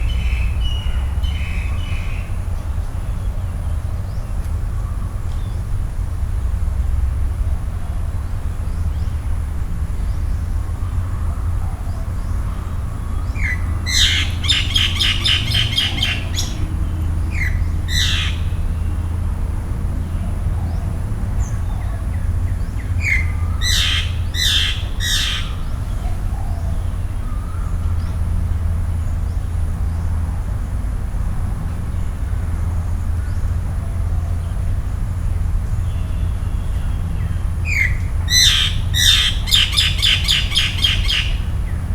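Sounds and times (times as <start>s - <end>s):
birds calling: 0.0s - 5.8s, 8.4s - 19.2s, 19.9s - 30.0s, 32.8s - 41.9s
steady low rumble: 0.0s - 41.9s.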